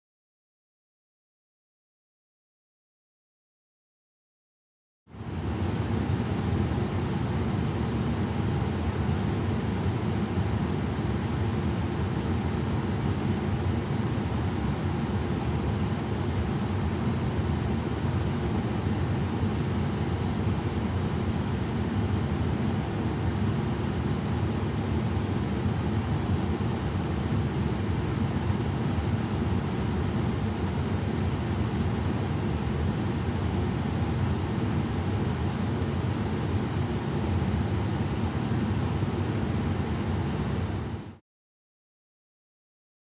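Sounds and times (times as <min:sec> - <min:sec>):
air vent blowing: 0:05.2 - 0:41.2.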